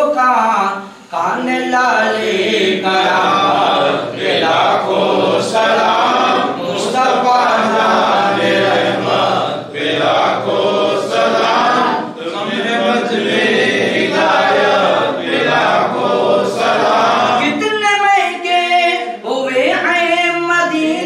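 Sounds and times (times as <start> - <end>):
men chanting in unison: 0.7 - 19.9.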